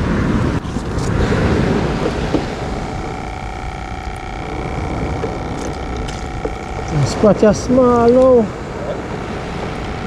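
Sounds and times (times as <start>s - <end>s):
steady mechanical hum: 0.0s - 10.0s
wind buffeting microphone: 0.0s - 10.0s.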